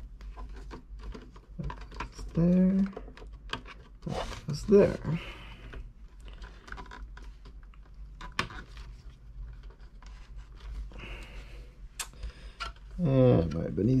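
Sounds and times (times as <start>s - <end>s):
cable handling clicks and rustles: 0.0s - 14.0s.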